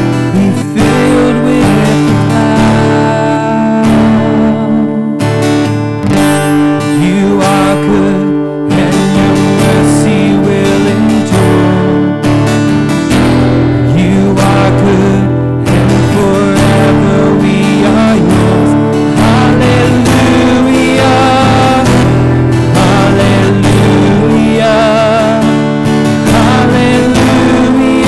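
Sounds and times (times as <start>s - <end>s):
man singing a worship song: 0.0s - 5.3s, 6.8s - 12.3s, 13.8s - 28.0s
acoustic guitar strumming chords: 0.0s - 28.0s.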